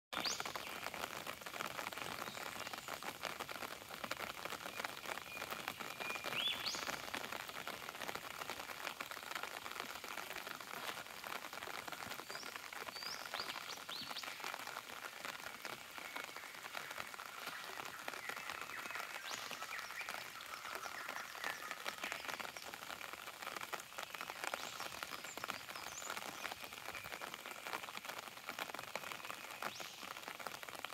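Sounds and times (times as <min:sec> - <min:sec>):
rain pattering on foliage: 0:00.1 - 0:30.9.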